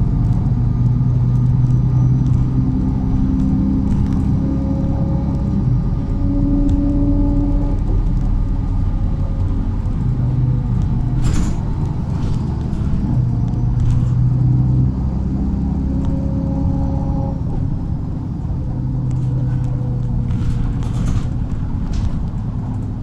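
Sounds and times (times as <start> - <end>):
bus engine rumble: 0.0 - 23.0.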